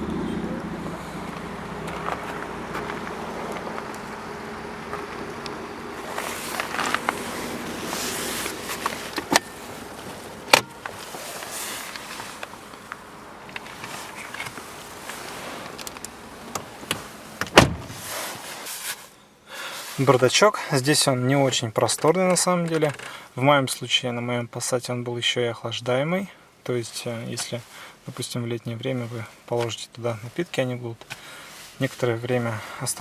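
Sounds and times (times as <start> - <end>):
rustling: 0.0 - 20.3, 26.8 - 33.0.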